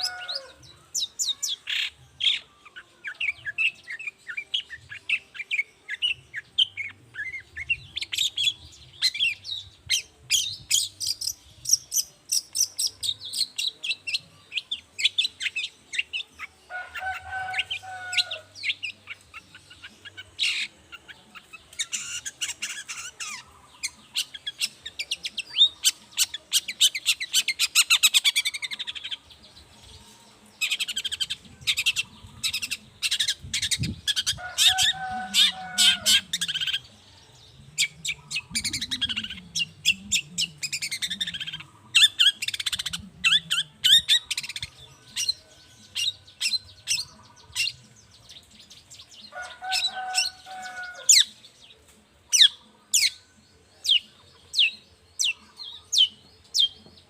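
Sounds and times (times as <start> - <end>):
bird chattering song: 0.0 - 29.4, 30.6 - 57.0.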